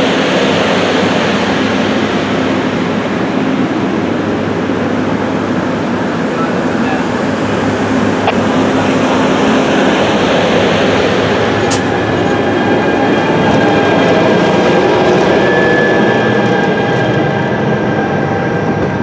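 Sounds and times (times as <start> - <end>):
locomotive whine: 0.0 - 19.0
train wheels rumbling on rails: 0.0 - 19.0.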